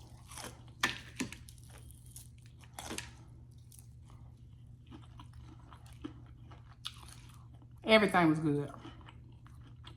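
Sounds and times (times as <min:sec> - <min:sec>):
chewing crispy fried food: 0:00.0 - 0:07.9, 0:08.6 - 0:09.9
steady low hum: 0:00.0 - 0:09.9.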